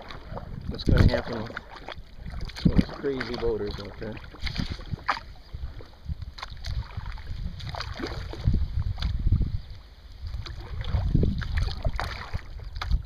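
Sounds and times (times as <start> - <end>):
water splashes from paddling: 0.0 - 13.0
wind buffeting microphone: 0.0 - 13.0.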